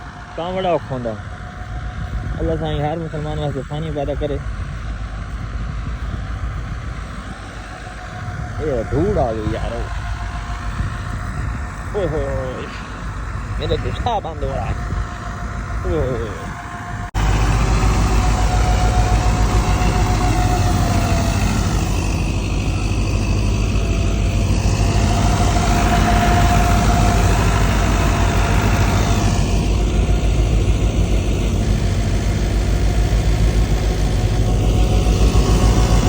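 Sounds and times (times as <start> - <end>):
constant mechanical whine: 0.0 - 36.0
thresher mechanical drone: 0.0 - 36.0.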